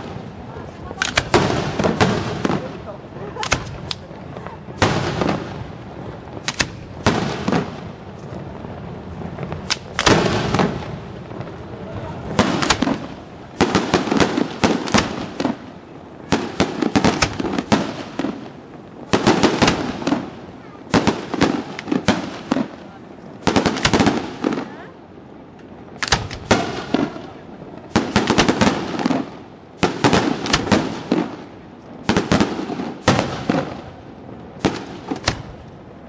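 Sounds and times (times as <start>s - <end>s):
firework bangs with rolling echo: 0.0s - 36.0s.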